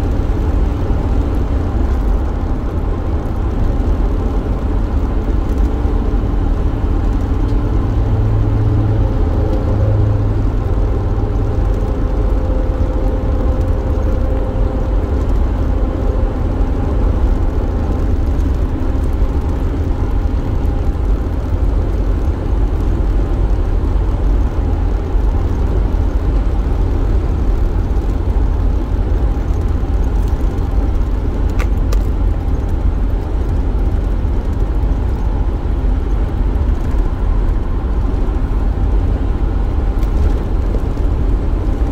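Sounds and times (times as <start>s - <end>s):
van engine and road rumble: 0.0s - 41.9s.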